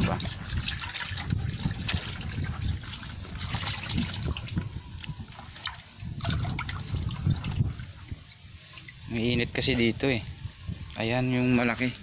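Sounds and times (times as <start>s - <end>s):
water sloshing in a bucket: 0.0s - 12.0s.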